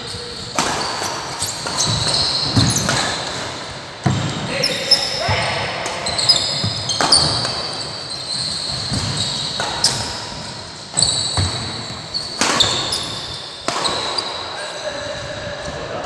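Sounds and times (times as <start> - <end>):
shoes squeaking on floor: 0.0 - 16.0
racket hitting shuttlecock: 0.2 - 4.4, 5.7 - 14.5.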